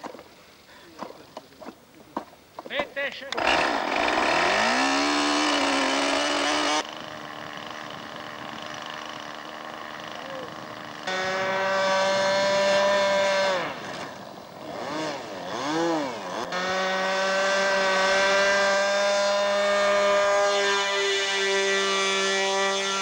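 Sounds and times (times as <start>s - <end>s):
model airplane engine buzzing: 3.3s - 23.0s.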